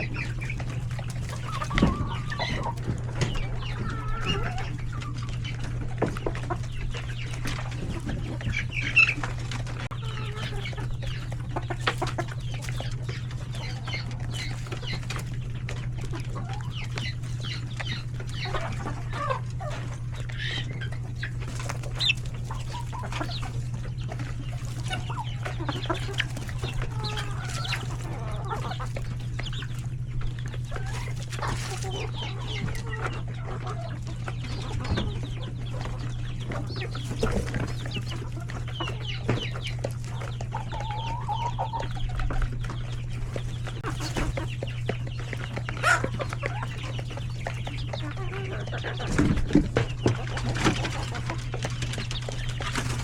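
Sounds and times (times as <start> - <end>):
chickens clucking and chicks peeping: 0.0 - 53.0
steady low hum: 0.0 - 53.0.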